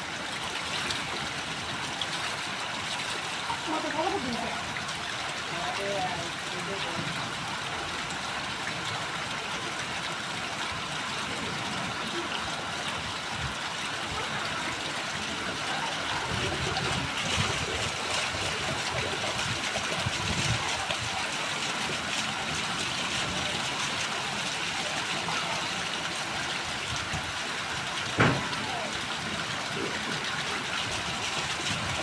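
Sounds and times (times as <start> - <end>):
heavy rain: 0.0 - 32.0
running water rushing: 0.0 - 32.0.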